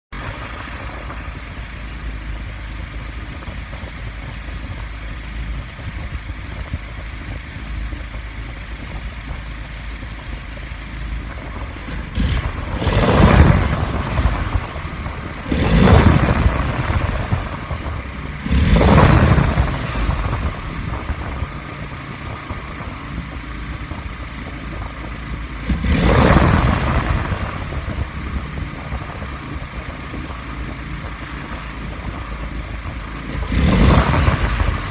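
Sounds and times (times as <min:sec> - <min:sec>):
engine idling and revving: 0:00.0 - 0:34.9.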